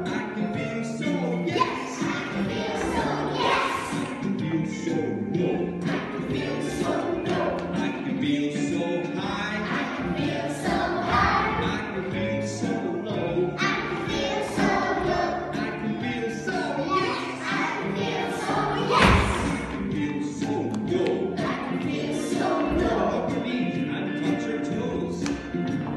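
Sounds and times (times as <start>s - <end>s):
children singing: 0.0s - 23.6s
musical accompaniment: 0.0s - 25.9s.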